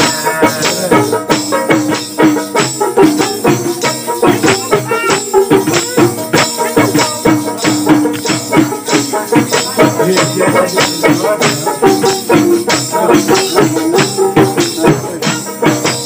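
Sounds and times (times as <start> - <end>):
hand percussion with jingles: 0.0 - 16.0
plucked string melody: 0.0 - 16.0.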